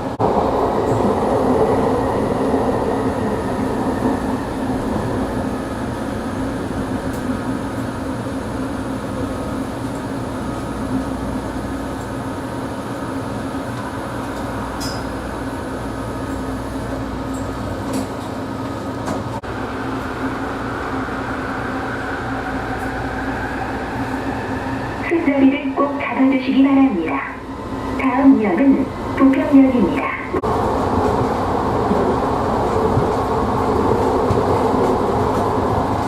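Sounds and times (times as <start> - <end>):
train rumbling on steel wheels: 0.0 - 36.0.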